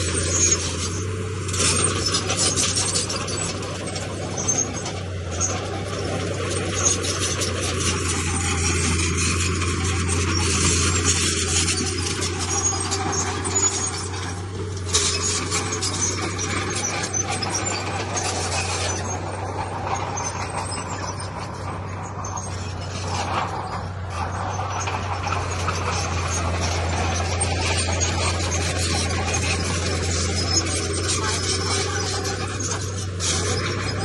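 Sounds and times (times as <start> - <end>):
diesel engine running: 0.0 - 34.0
machinery clatter and scraping: 0.0 - 34.0.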